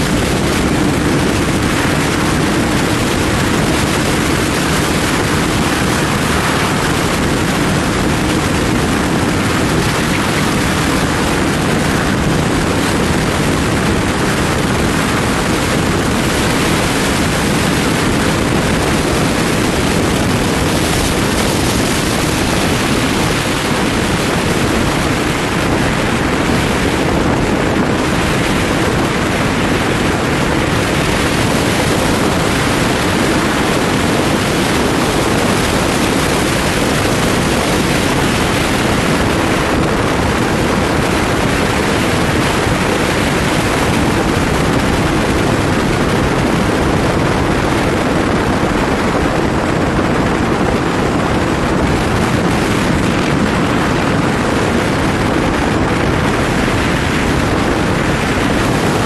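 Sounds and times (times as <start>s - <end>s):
motorcycle running noise: 0.0s - 59.0s
wind rushing over microphone: 0.0s - 59.0s.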